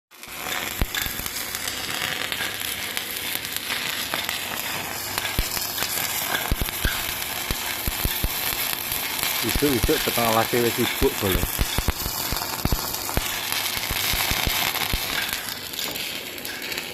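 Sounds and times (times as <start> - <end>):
welding arc sizzling: 0.1 - 16.9.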